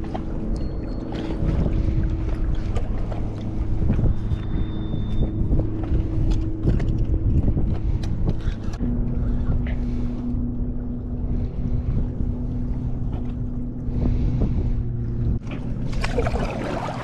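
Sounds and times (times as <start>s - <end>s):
low drone: 0.0s - 17.0s
wind rushing over microphone: 1.3s - 17.0s.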